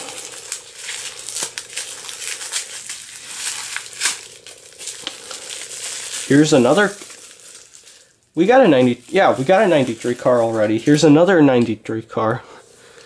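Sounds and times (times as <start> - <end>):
plastic wrapping crinkling: 0.0 - 11.4.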